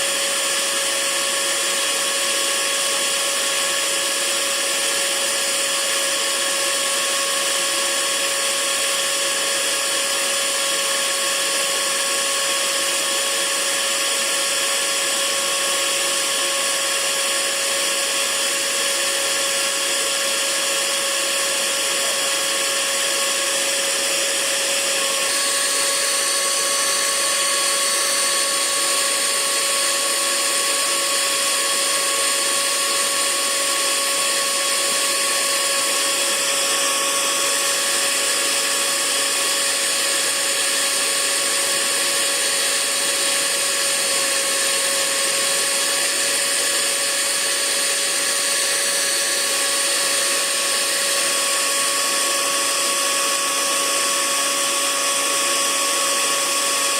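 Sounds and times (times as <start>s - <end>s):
hair dryer running: 0.0s - 56.9s.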